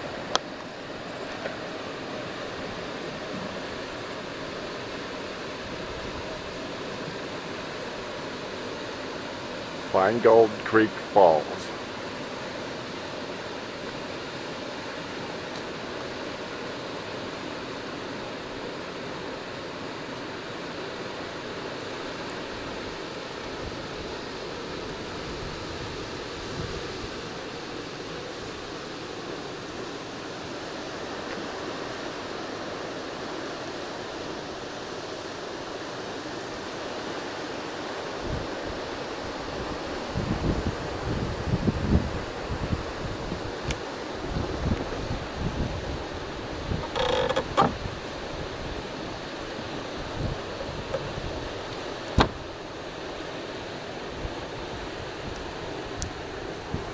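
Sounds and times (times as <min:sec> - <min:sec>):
small waterfall rushing: 0:00.0 - 0:56.9.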